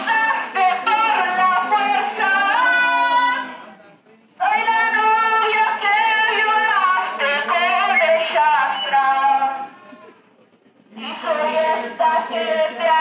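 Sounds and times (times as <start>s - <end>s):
women singing unaccompanied: 0.0s - 3.7s, 4.4s - 9.8s, 11.0s - 13.0s.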